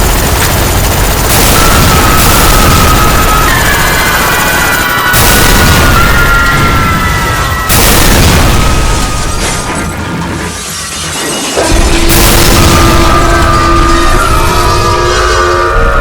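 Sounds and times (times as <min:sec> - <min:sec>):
loud crashing booms: 0:00.0 - 0:11.0, 0:11.6 - 0:16.0.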